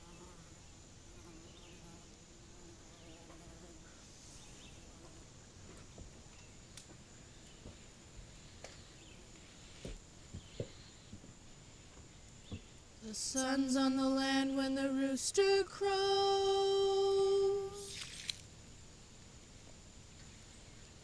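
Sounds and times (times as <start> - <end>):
insect drone: 0.0 - 21.0.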